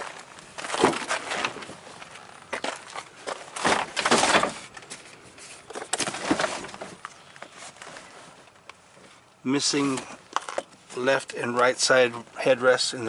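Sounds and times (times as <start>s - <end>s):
rustling and scuffing: 0.0s - 12.2s.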